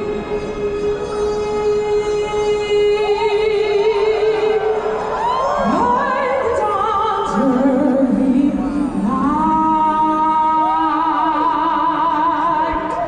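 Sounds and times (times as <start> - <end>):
sustained musical accompaniment: 0.0 - 11.6
person singing with vibrato: 0.0 - 13.0.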